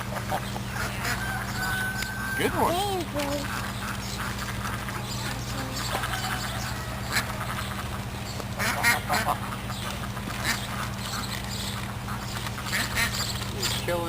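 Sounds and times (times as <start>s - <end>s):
ducks quacking: 0.0s - 14.0s
steady low hum: 0.0s - 14.0s.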